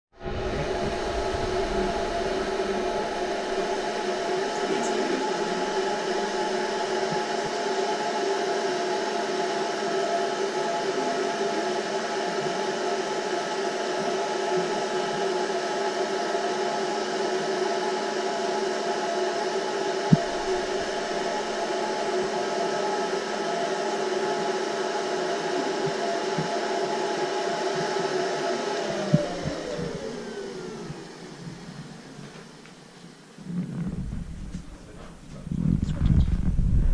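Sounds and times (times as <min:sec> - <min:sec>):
vacuum cleaner running: 0:00.1 - 0:35.7.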